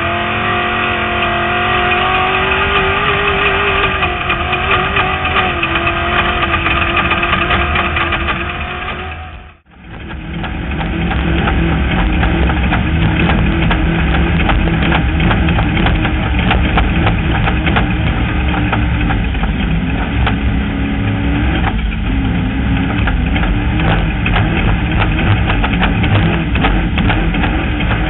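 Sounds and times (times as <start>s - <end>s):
off-road vehicle engine revving: 0.0s - 28.0s
sharp clicks and rattles: 0.0s - 28.0s.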